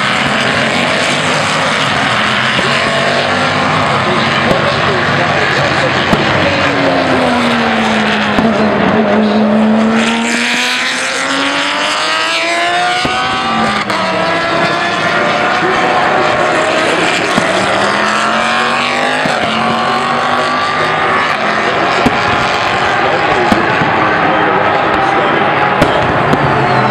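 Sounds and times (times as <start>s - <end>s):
race car engines: 0.0s - 26.9s.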